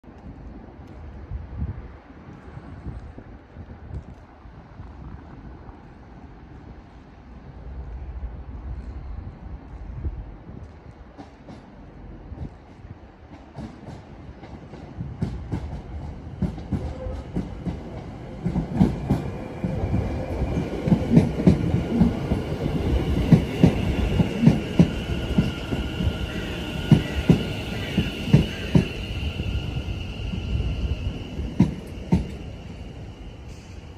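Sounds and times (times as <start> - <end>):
train rolling rumble: 0.0 - 33.9.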